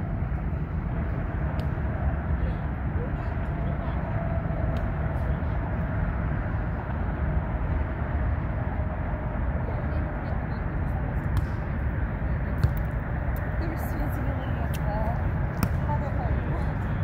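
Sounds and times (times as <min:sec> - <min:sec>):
low rumble of city ambience: 0:00.0 - 0:17.0.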